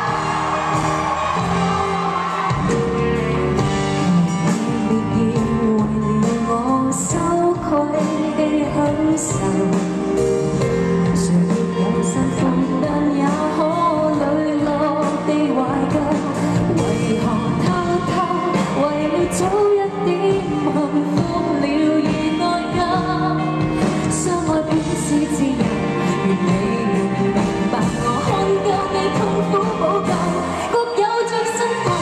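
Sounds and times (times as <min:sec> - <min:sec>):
band playing: 0:00.0 - 0:32.0
woman singing into microphone: 0:04.0 - 0:32.0.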